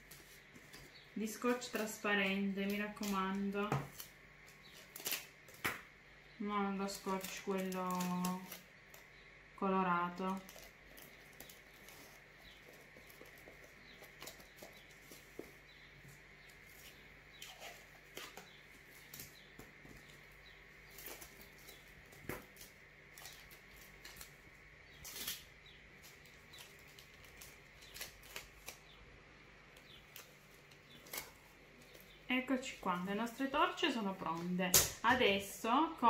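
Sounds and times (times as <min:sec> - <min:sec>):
paper and tape rustling: 0:00.0 - 0:05.8, 0:06.8 - 0:09.1, 0:10.2 - 0:29.0, 0:29.7 - 0:33.5.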